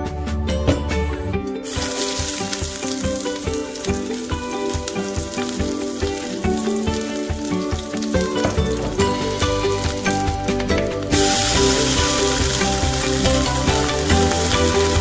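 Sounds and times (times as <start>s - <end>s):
onions sizzling in frying pan: 1.6s - 15.0s.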